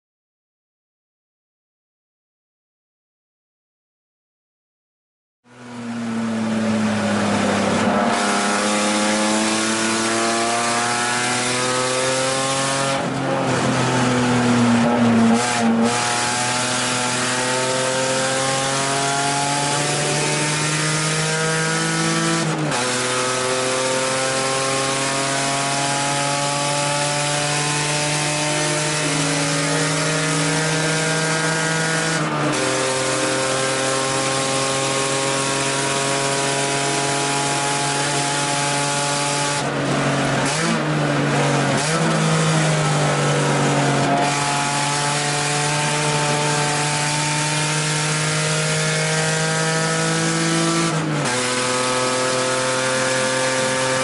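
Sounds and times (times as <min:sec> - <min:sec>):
race car engine at full throttle: 0:05.5 - 0:54.0.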